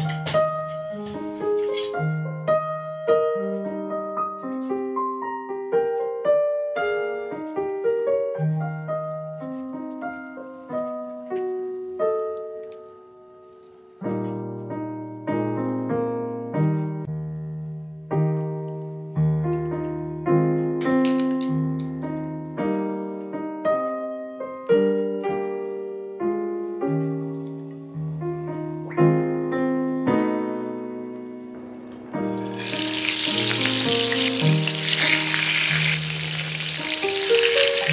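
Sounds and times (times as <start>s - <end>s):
gentle piano melody: 0.0s - 37.9s.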